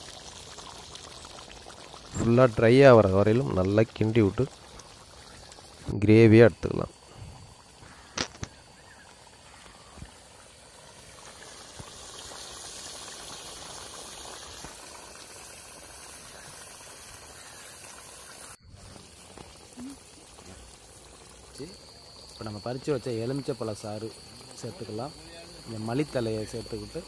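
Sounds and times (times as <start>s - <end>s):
gravy bubbling in a pot: 0.0s - 27.0s.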